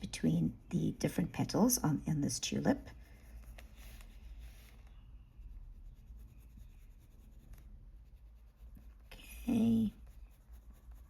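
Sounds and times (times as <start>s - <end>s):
colored pencil scratching on paper: 0.0s - 11.0s
low steady hum: 0.0s - 11.0s.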